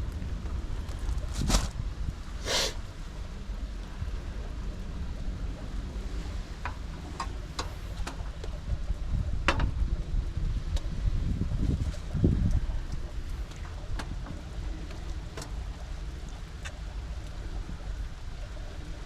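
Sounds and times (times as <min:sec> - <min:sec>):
low wind rumble: 0:00.0 - 0:19.0.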